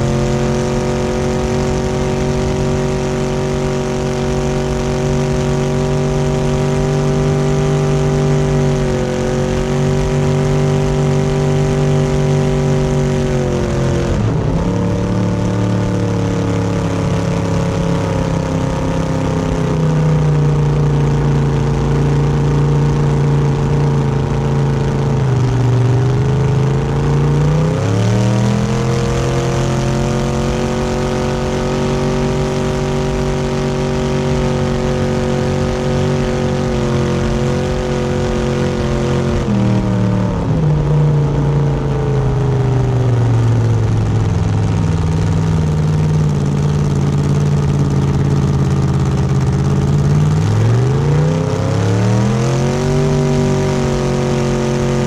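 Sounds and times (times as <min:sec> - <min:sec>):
motorboat engine revving: 0:00.0 - 0:55.0.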